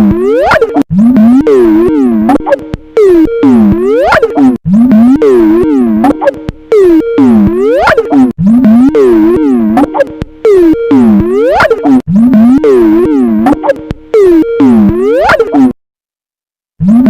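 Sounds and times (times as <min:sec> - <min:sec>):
warped ringtone with pitch glides: 0:00.0 - 0:15.8.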